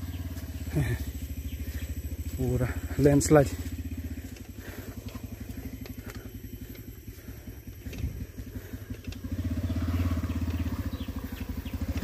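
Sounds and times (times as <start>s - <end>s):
motorcycle engine idling putter: 0.0s - 12.0s.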